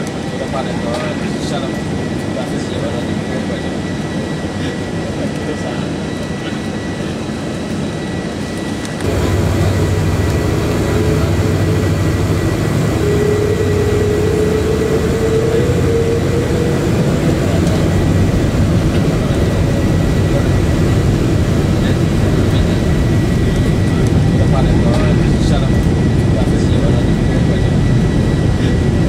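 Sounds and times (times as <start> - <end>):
jet engine cabin noise: 0.0 - 29.0.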